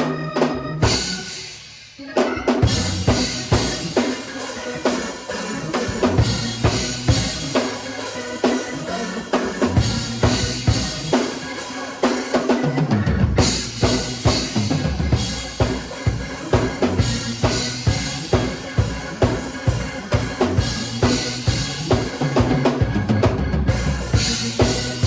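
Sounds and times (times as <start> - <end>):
drum kit groove: 0.0 - 25.0.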